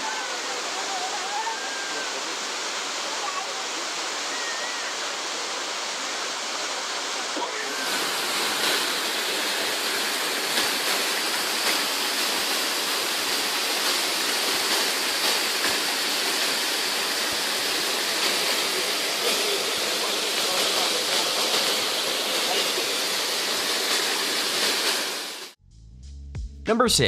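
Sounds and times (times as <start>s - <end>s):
waterfall rushing: 0.0s - 25.6s.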